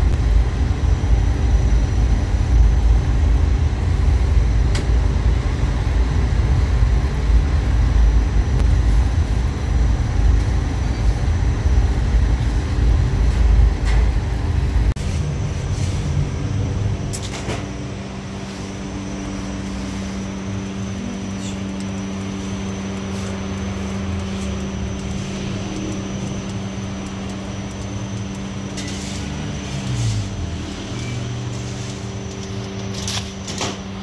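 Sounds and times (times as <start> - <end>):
machinery humming: 0.0 - 34.0.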